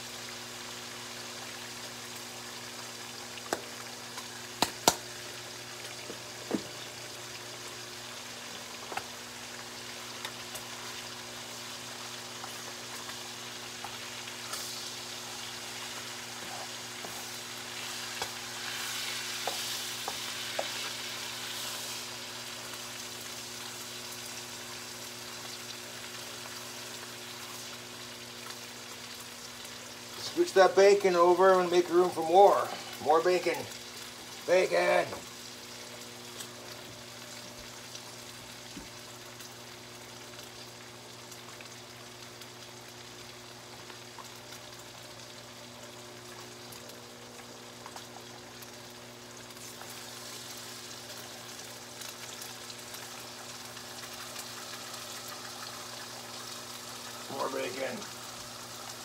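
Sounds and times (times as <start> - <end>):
bacon sizzling in skillet: 0.0 - 59.0.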